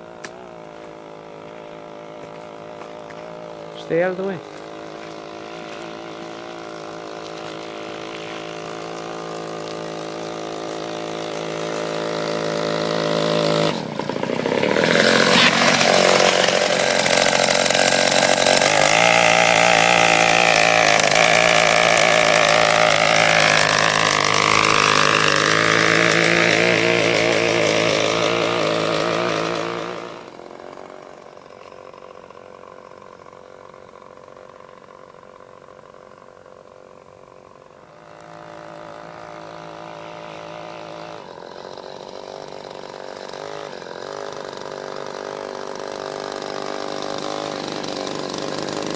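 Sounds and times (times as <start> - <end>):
two-stroke engine running: 0.0 - 48.9.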